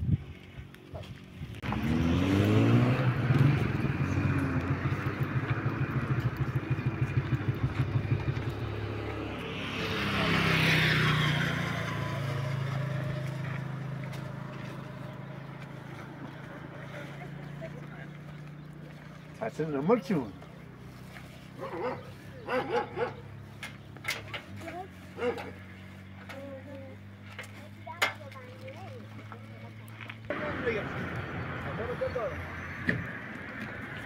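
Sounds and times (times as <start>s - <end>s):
vehicle engine revving and throbbing: 1.5s - 27.3s, 28.9s - 34.0s.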